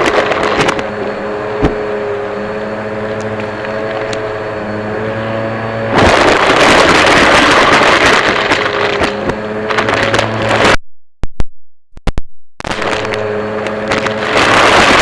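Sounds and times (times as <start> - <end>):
vacuum cleaner motor humming: 0.0 - 10.8, 12.7 - 15.0
vacuum suction rush: 0.0 - 10.8, 12.6 - 15.0.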